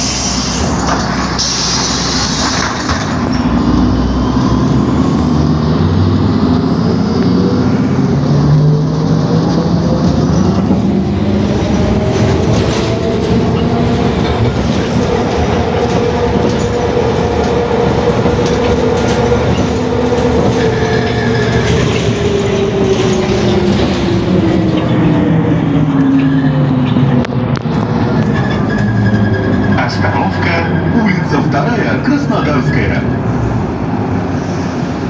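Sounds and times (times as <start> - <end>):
bus drivetrain whine: 0.0 - 35.0
engine and road noise: 0.0 - 35.0.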